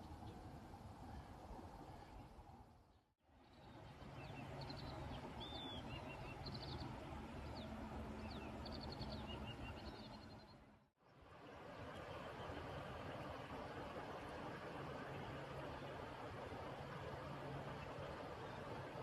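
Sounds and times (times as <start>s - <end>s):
low outdoor background hum: 0.0s - 19.0s.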